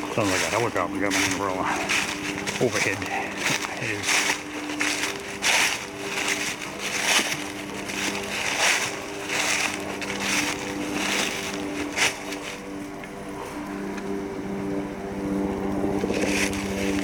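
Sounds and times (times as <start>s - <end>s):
footsteps crunching dry leaves: 0.0s - 17.0s
helicopter droning overhead: 0.0s - 17.0s.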